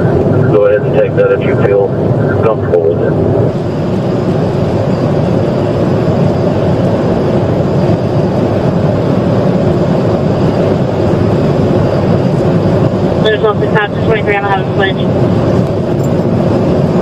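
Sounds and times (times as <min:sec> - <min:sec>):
car driving at high speed: 0:00.0 - 0:17.0.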